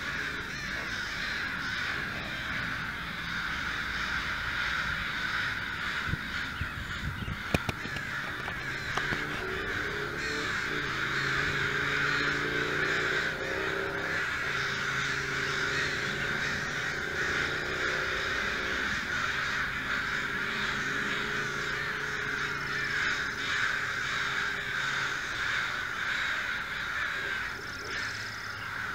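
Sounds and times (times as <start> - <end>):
crows cawing: 0.0 - 28.9.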